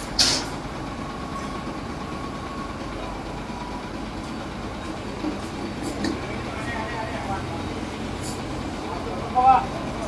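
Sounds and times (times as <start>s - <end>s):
heavy vehicle engine idling: 0.0s - 10.0s.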